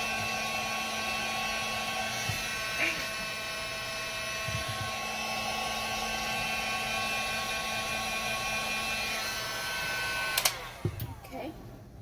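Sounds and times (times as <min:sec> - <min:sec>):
heat gun blowing hot air: 0:00.0 - 0:11.3.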